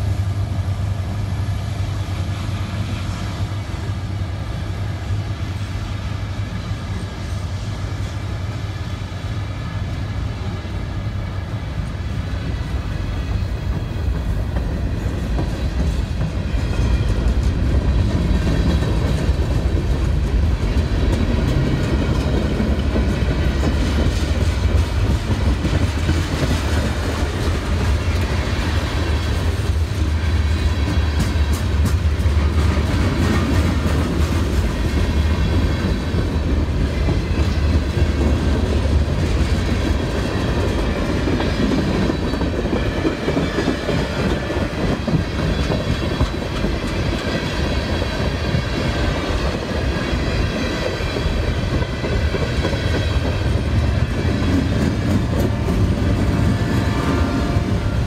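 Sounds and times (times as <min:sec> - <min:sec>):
diesel locomotives passing: 0:00.0 - 0:58.0.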